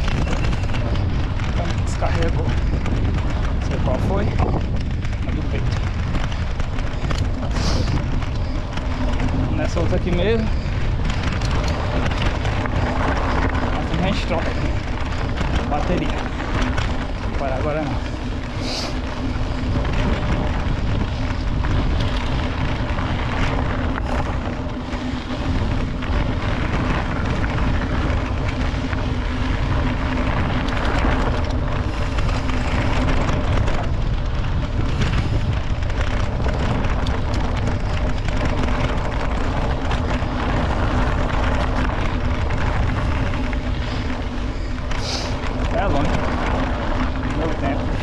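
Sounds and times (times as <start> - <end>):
bike rattling and knocking: 0.0 - 48.0
bike tyres rolling on dirt trail: 0.0 - 48.0
wind buffeting microphone: 0.0 - 48.0.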